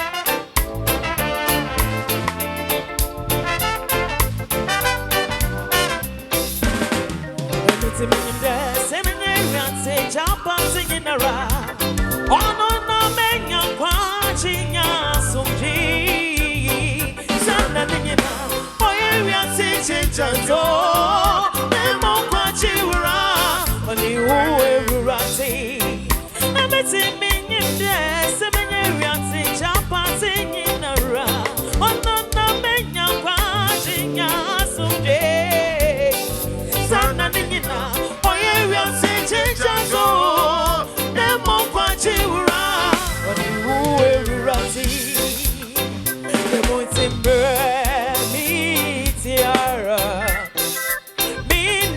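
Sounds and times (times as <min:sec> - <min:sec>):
band music through pa system: 0:00.0 - 0:51.9
person singing: 0:07.6 - 0:51.9.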